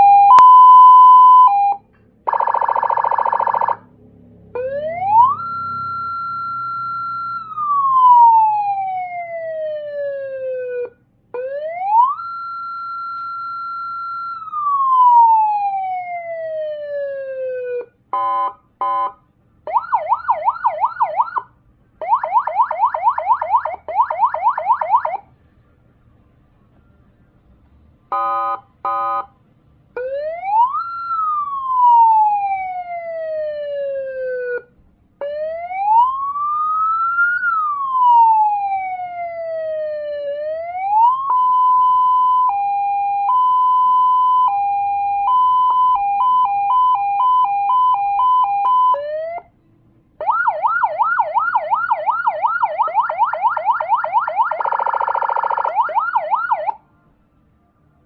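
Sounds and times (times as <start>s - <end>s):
electronic siren cycling tones: 0.0s - 3.9s, 4.5s - 19.1s, 19.7s - 25.2s, 30.0s - 49.4s, 50.2s - 56.8s.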